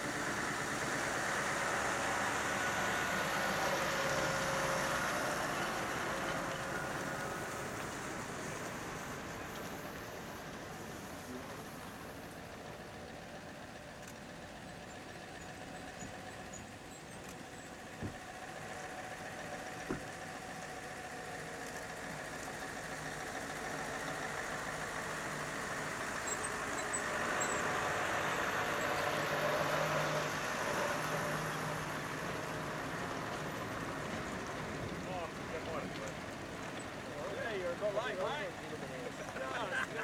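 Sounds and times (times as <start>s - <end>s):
truck driving past: 0.0s - 12.2s, 19.5s - 40.0s.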